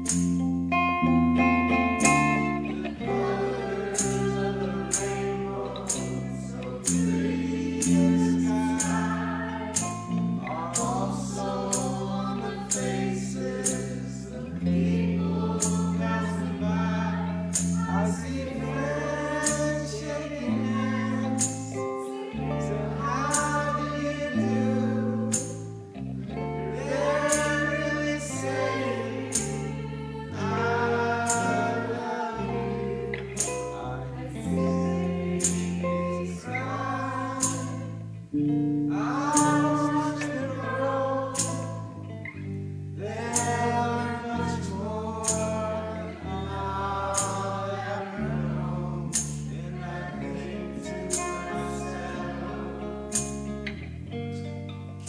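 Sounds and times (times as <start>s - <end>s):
person singing: 0.0s - 53.5s
electric bass: 0.0s - 55.0s
strummed acoustic guitar: 0.0s - 55.0s.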